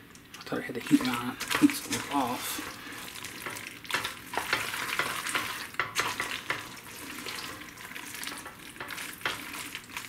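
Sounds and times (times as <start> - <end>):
wet sticky stirring: 0.1 - 10.0.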